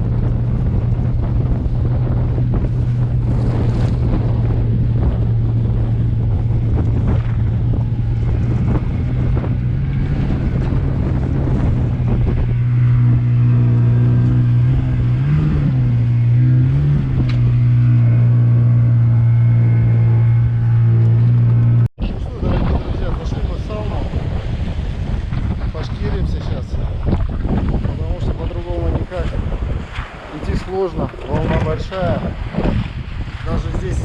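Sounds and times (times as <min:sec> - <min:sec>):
motorboat engine running: 0:00.0 - 0:34.0
wind buffeting microphone: 0:00.0 - 0:34.0.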